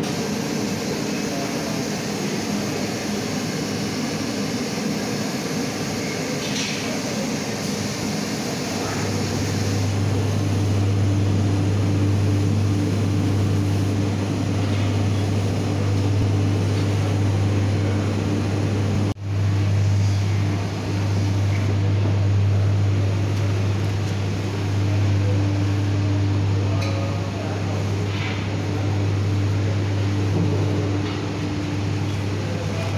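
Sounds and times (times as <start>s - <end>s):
low machine hum with fan noise: 0.0s - 32.9s.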